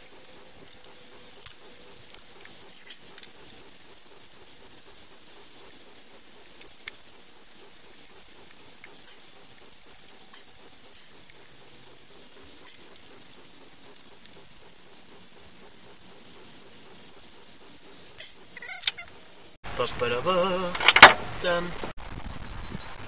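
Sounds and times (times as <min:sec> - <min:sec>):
tools and small parts clicking: 0:00.0 - 0:19.2.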